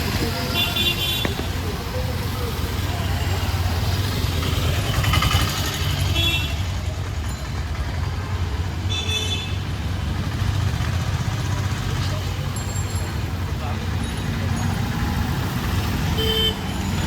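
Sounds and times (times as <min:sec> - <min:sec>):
motor vehicles humming: 0:00.0 - 0:17.0.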